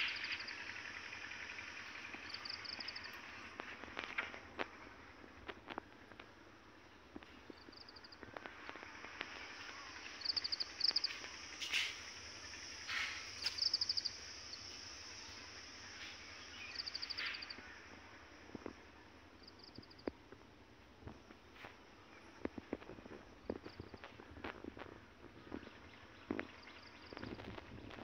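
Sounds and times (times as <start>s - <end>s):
steady high hiss: 0.0s - 25.4s.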